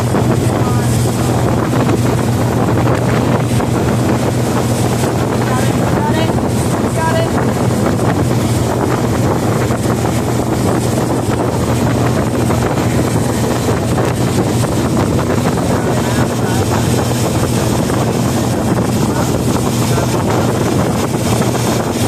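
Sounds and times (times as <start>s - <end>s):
motorboat engine running: 0.0s - 22.0s
water rushing: 0.0s - 22.0s
wind buffeting microphone: 0.0s - 22.0s.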